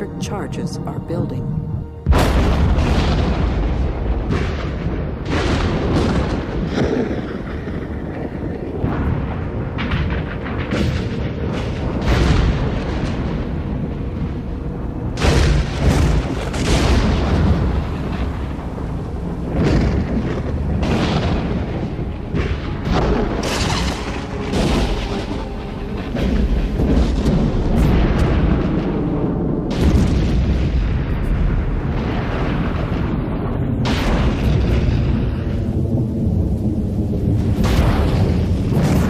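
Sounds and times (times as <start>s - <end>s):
thunder rumbling: 0.0s - 39.0s
thunder cracks: 2.0s - 39.0s.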